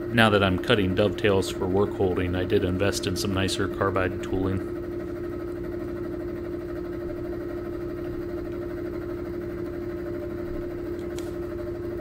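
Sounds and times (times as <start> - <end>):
milling machine cutting hum: 0.0 - 12.0.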